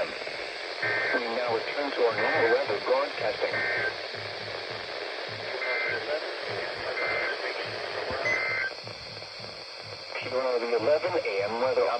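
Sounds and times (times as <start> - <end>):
radio static hiss: 0.0 - 11.9.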